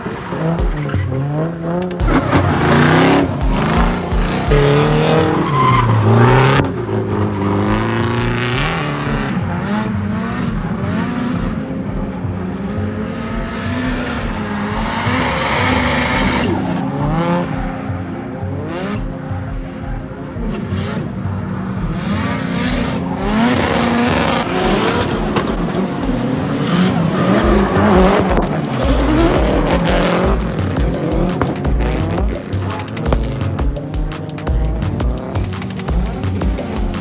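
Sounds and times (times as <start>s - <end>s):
car engines revving: 0.0s - 37.0s
tires squealing: 0.0s - 37.0s.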